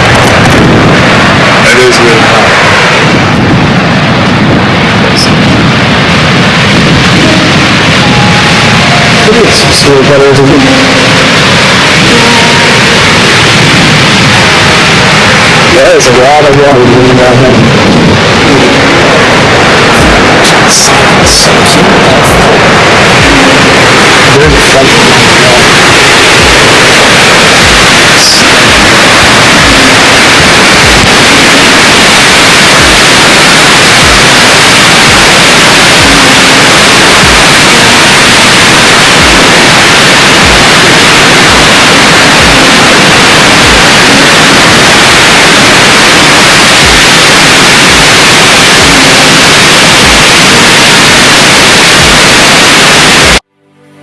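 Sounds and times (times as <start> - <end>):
waterfall rushing: 0.0 - 53.4.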